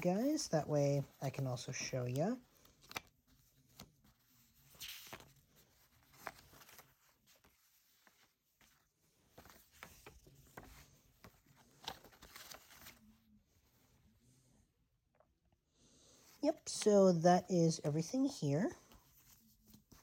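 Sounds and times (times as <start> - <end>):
paper crackling and rustling: 0.0 - 14.2, 17.8 - 20.0.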